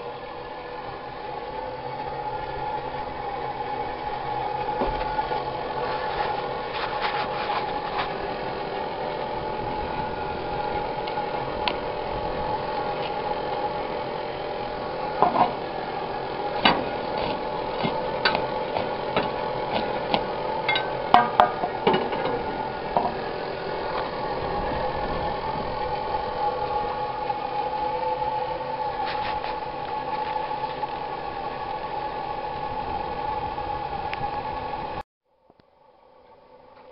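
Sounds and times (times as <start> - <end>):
motor humming: 0.0 - 35.0.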